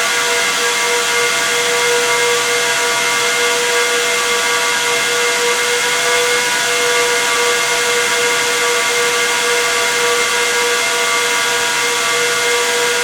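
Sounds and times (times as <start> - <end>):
cooling fans whining and hissing: 0.0 - 13.0.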